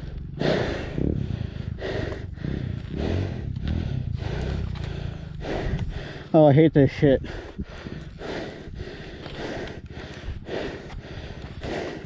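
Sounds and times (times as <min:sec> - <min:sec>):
dirt bike engine running: 0:00.0 - 0:12.0
hard rapid breathing: 0:00.0 - 0:12.0.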